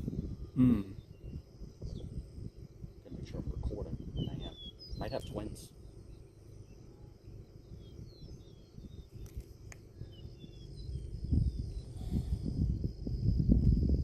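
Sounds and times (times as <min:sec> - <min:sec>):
wind buffeting microphone: 0:00.0 - 0:05.7, 0:07.5 - 0:14.0
birds chirping: 0:00.0 - 0:12.5
insects trilling: 0:00.0 - 0:14.0.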